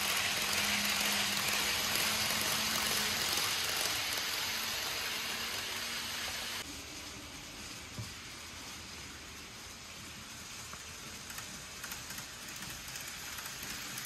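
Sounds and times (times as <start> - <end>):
model train wheels on rails: 0.0 - 14.0.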